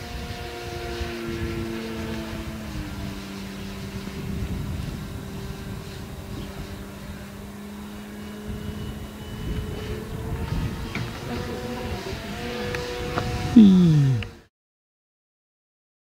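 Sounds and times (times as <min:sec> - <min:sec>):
model plane motor buzzing: 0:00.0 - 0:14.5.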